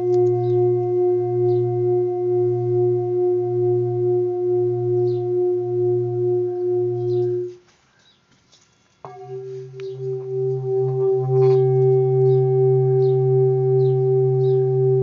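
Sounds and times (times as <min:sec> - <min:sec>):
singing bowl wavering note: 0:00.0 - 0:07.6, 0:09.1 - 0:15.0.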